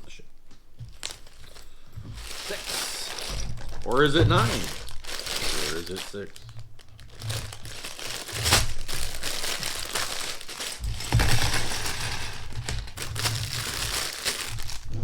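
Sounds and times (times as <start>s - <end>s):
plastic bag crinkling: 0.0s - 15.0s
plastic bricks rattling: 2.2s - 15.0s.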